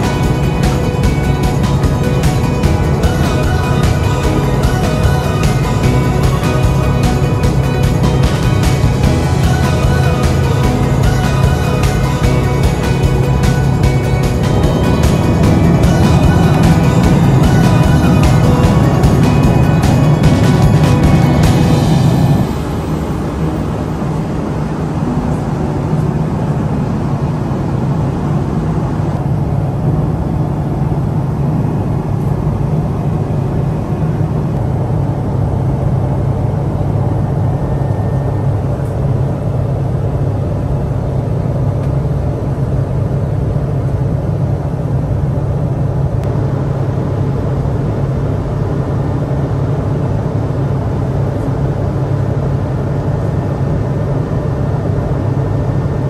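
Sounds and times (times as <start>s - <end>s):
airliner cabin drone: 0.0s - 56.0s.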